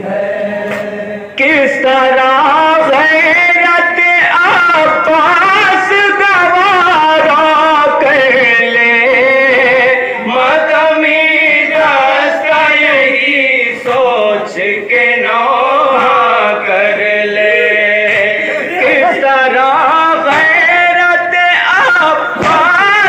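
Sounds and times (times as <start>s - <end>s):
male voices chanting a lament: 0.0s - 23.0s.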